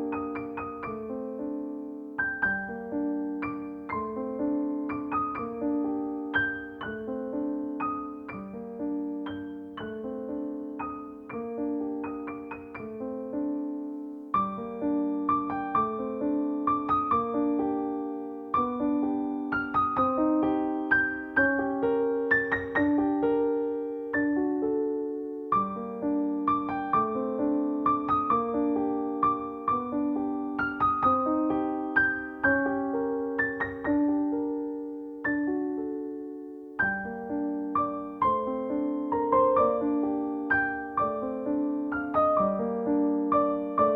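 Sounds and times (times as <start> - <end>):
soft solo piano music: 0.0 - 43.9.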